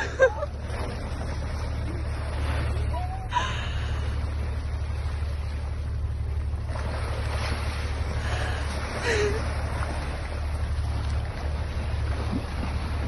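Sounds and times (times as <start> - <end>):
boat engine droning: 0.0 - 13.0
water noise: 0.0 - 13.0
wind: 0.0 - 13.0.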